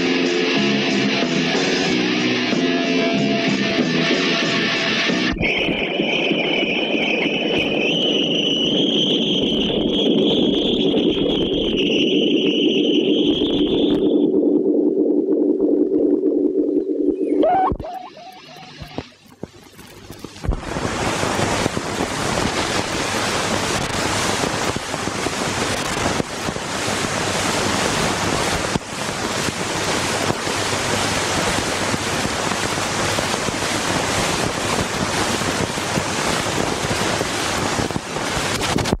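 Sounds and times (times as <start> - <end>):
static hiss: 0.0 - 39.0.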